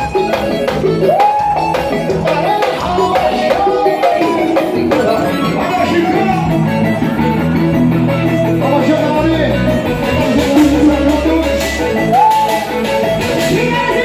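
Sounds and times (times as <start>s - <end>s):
bending guitar lead note: 0.0s - 14.0s
instrumental band music: 0.0s - 14.0s.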